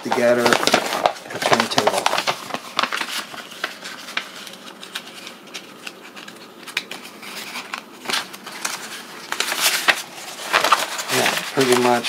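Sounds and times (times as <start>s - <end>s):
paper rustling and crackling: 0.0s - 12.0s.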